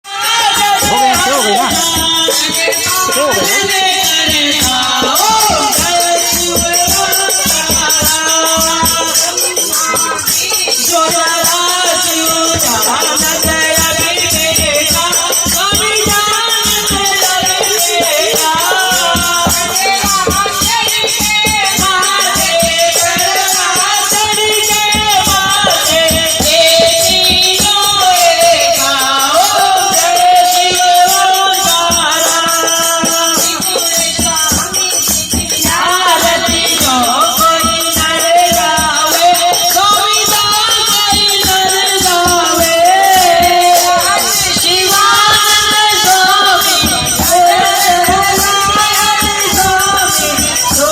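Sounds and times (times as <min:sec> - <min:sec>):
rattling shaker percussion: 0:00.0 - 0:50.9
devotional melody: 0:00.1 - 0:50.9.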